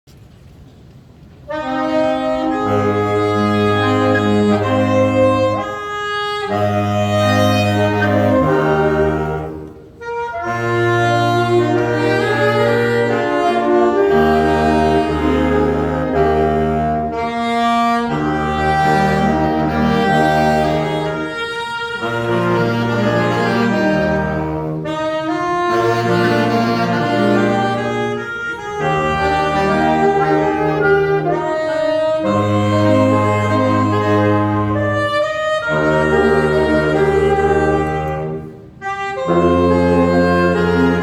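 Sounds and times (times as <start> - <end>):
instrumental hymn melody: 0.2 - 41.0.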